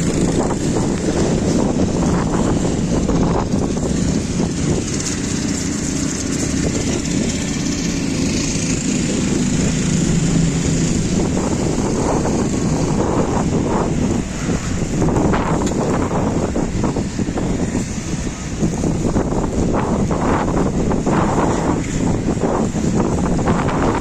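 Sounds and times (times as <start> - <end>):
vehicle traffic rumbling: 0.0 - 24.0
wind buffeting microphone: 0.0 - 24.0.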